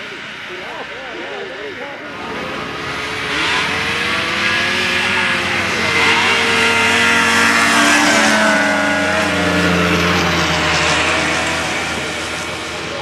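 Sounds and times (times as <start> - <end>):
snowmobile engines passing by: 0.0 - 13.0.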